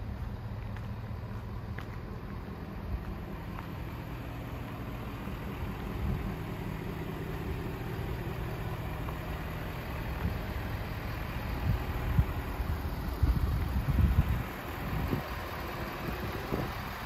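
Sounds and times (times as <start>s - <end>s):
diesel truck idling: 0.0s - 17.0s.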